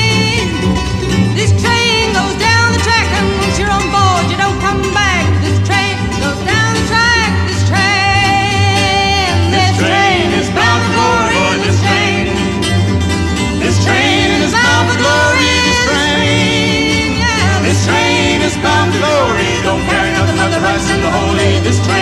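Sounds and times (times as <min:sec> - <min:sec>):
upbeat folk song: 0:00.0 - 0:22.0.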